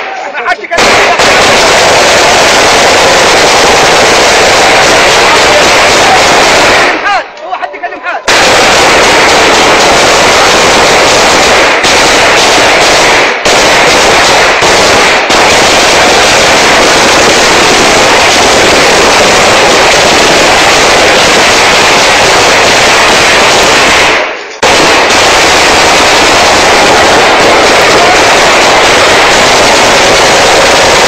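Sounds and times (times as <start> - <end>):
rapid loud bangs: 0.7 - 7.2, 8.2 - 31.0.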